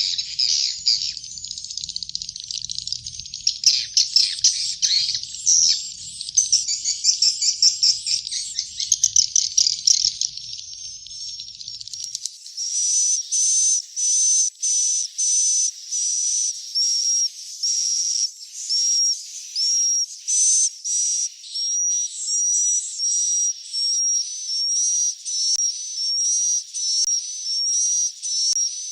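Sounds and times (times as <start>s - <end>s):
bird chicks chirping: 0.0s - 25.5s.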